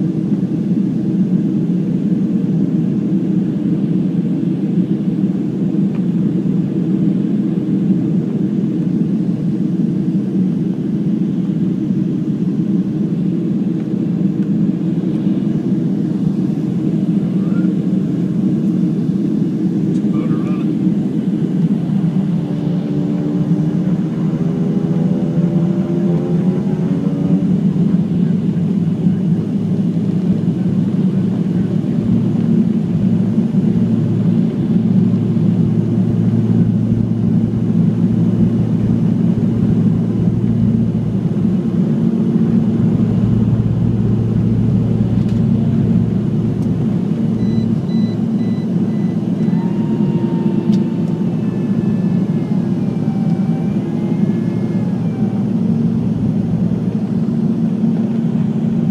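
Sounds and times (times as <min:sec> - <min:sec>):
jet engines rumbling in cabin: 0:00.0 - 0:58.9.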